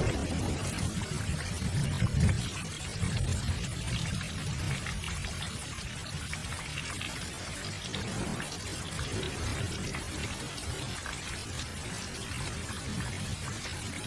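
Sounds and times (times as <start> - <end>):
raindrops hitting surface: 0.0 - 14.0.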